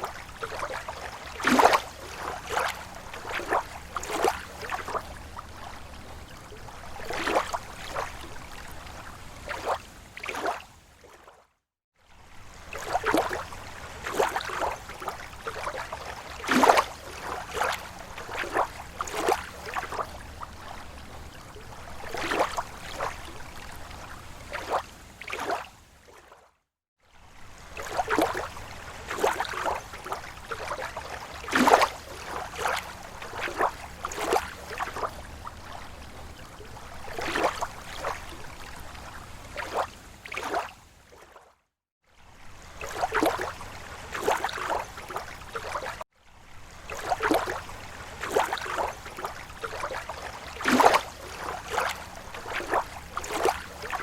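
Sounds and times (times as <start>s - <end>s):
small waves lapping shore: 0.0s - 54.0s.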